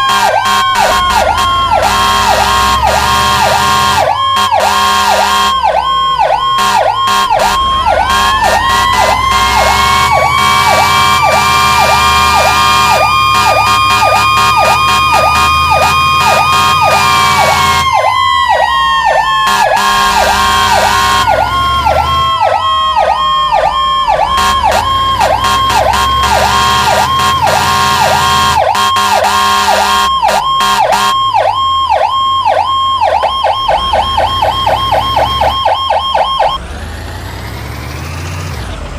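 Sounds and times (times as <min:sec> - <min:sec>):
electronic siren yelping: 0:00.0 - 0:36.6
siren winding up and down: 0:00.0 - 0:38.6.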